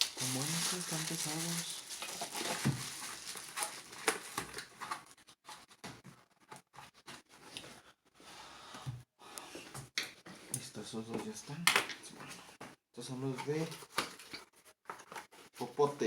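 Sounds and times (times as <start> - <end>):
tumblers and packaging rustling: 0.0 - 7.8, 9.6 - 15.9.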